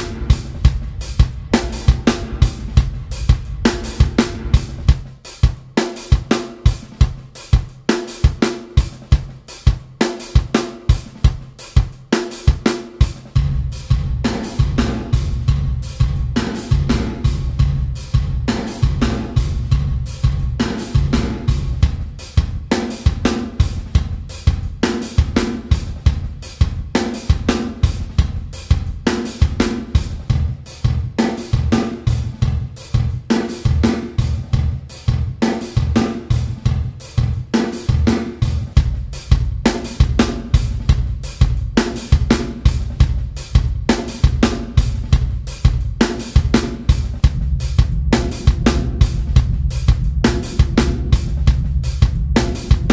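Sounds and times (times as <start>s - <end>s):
drum kit beat with reverb: 0.0s - 52.9s.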